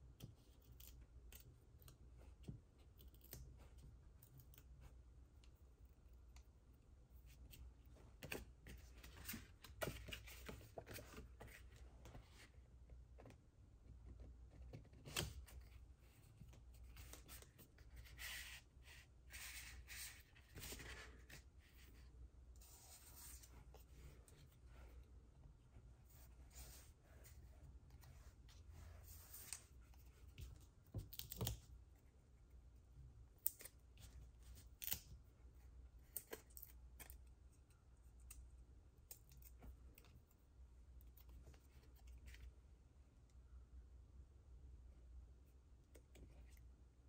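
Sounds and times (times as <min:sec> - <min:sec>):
low room hum: 0:00.0 - 0:47.0.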